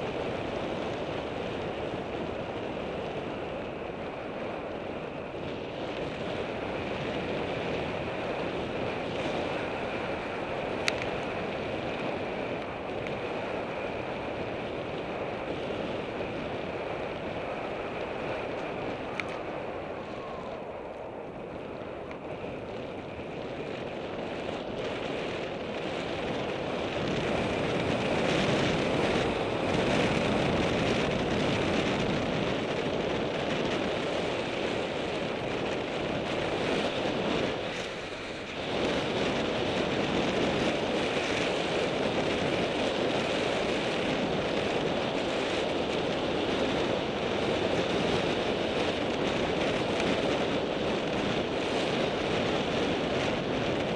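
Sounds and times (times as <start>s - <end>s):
wheels rolling on asphalt: 0.0s - 53.9s
wind rushing over microphone: 0.0s - 53.9s.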